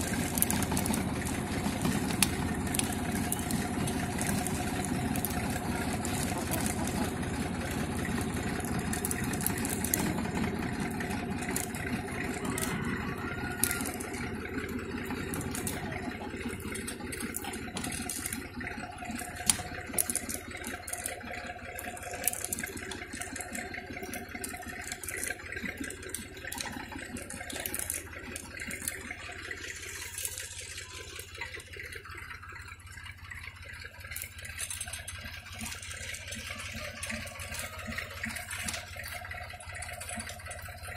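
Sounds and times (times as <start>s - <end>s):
chain drive clicking and rattling: 0.0s - 40.9s
engine running: 0.0s - 40.9s.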